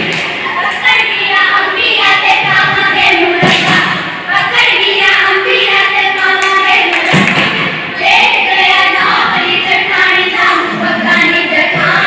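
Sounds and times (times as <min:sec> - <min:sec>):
women singing in chorus: 0:00.4 - 0:12.0.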